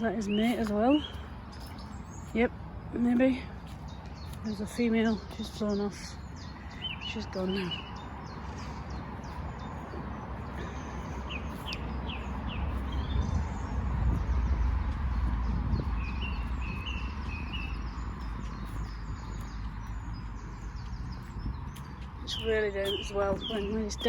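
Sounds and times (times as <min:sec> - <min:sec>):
road traffic rumble: 0:00.0 - 0:24.0
small birds chirping: 0:00.0 - 0:24.0.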